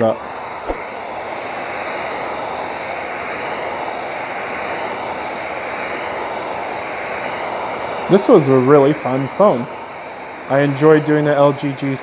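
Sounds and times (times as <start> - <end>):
heat gun blowing hot air: 0.0 - 12.0.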